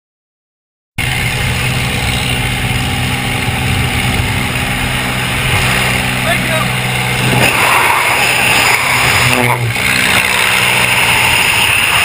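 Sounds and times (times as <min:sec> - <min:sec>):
propeller engine droning: 0:01.0 - 0:12.0
rush of wind: 0:01.0 - 0:12.0.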